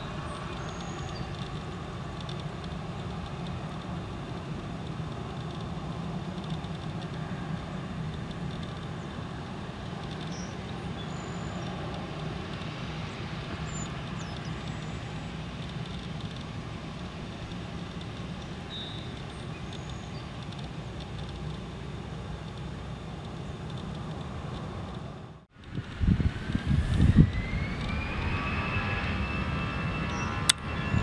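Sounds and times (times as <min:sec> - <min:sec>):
jet engines rumbling with hiss: 0:00.0 - 0:31.0.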